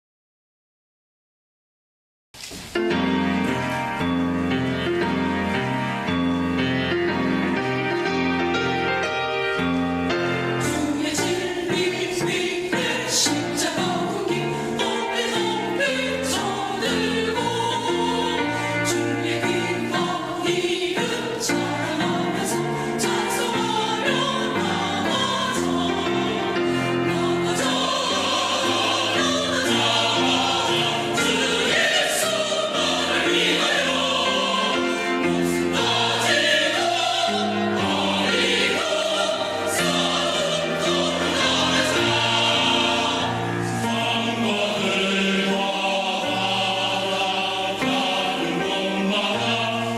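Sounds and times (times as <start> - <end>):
church choir singing a hymn: 3.1 - 49.9.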